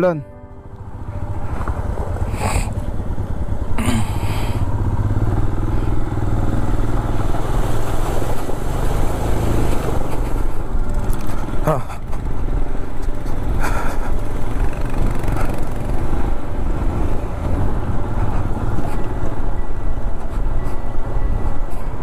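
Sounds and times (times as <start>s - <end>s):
motorcycle engine running: 0.5s - 20.6s.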